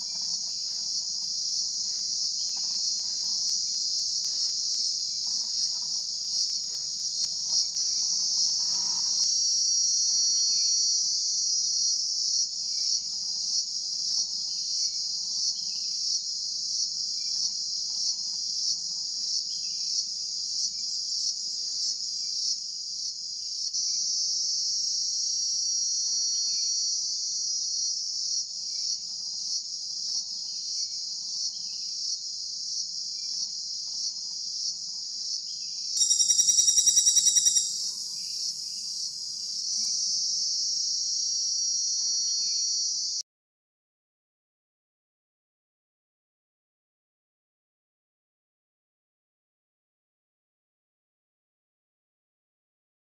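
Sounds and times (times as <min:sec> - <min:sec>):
insects chorus: 0:00.0 - 0:43.2.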